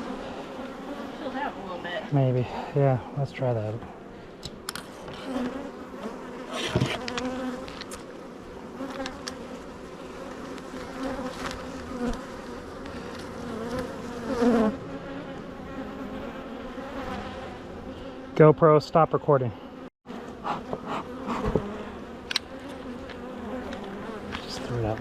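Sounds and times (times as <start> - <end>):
bees buzzing: 0.0 - 18.6, 19.5 - 25.0.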